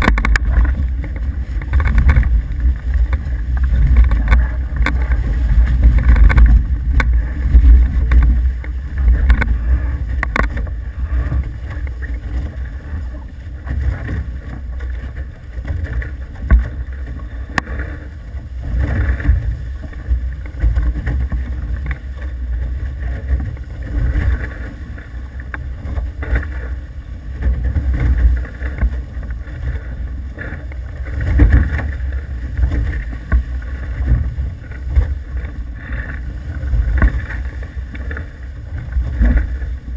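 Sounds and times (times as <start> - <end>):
rushing water: 0.0 - 39.9
wind buffeting the microphone: 0.0 - 39.9.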